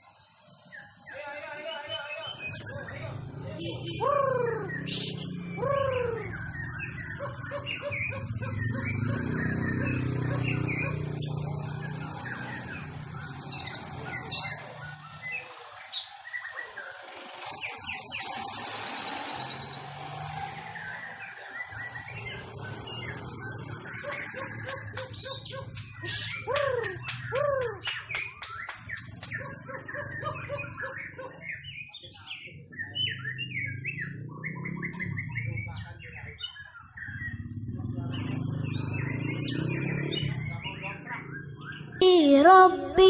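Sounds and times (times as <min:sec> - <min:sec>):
bird trill: 0:00.0 - 0:43.0
birds singing whistles and chirps: 0:00.0 - 0:43.0.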